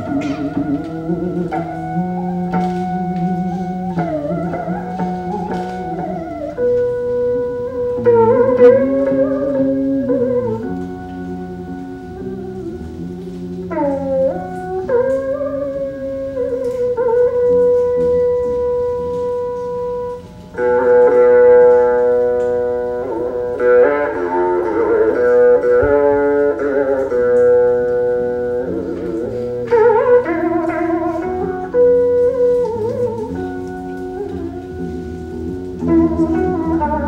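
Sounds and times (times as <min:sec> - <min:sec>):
monochords playing slow sliding melody: 0:00.0 - 0:37.0.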